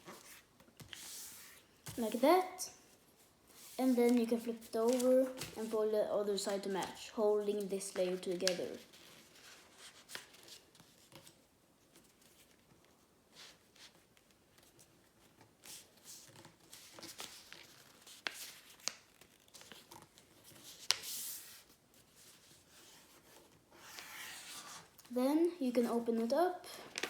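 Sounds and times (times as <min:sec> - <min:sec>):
paper rustling and crinkling: 0:03.5 - 0:25.1, 0:26.7 - 0:27.0.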